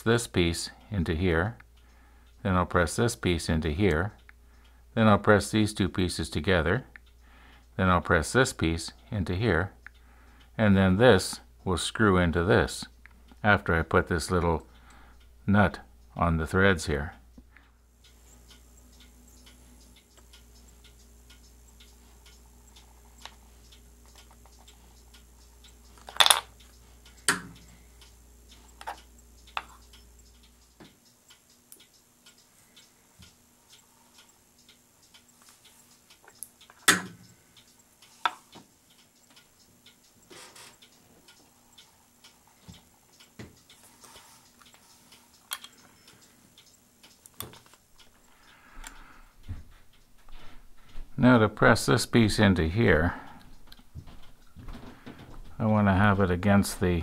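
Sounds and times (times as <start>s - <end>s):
steady faint ticking: 0.0s - 57.0s.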